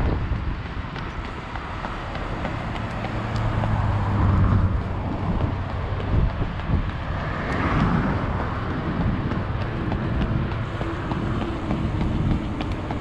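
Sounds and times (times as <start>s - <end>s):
wind and road noise rumble: 0.0s - 13.0s.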